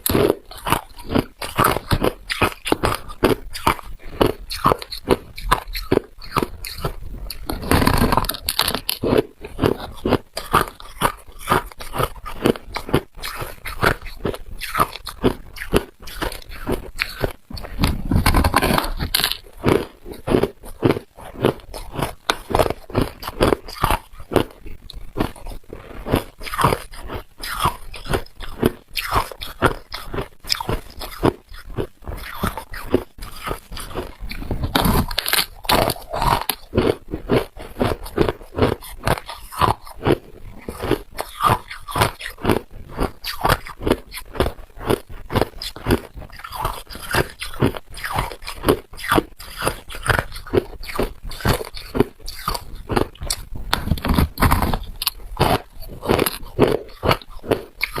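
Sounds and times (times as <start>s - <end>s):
ice crunching in mouth: 0.0s - 58.0s.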